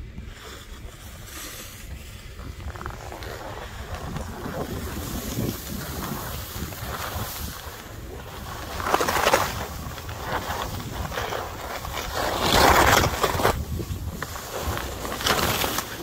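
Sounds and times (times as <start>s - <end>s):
skis sliding on snow: 0.1s - 16.0s
wind buffeting microphone: 1.8s - 16.0s.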